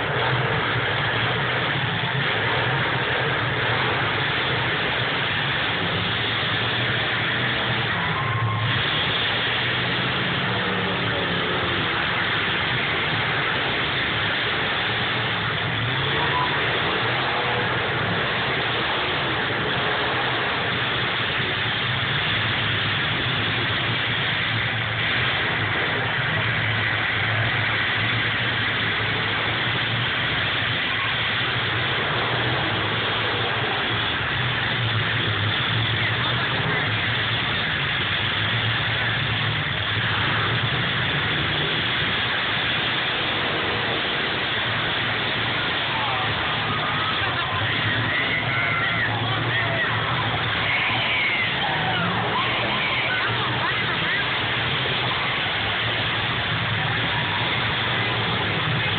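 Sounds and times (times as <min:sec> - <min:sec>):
car engines running together: 0:00.0 - 0:58.9.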